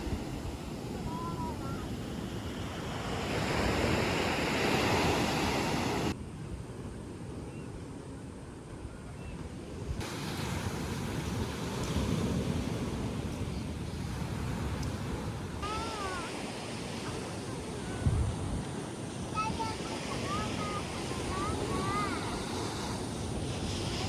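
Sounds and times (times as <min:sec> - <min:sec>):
sea surf washing in: 0:00.0 - 0:06.2, 0:09.8 - 0:24.0
wind on microphone: 0:00.0 - 0:07.4, 0:08.8 - 0:24.0.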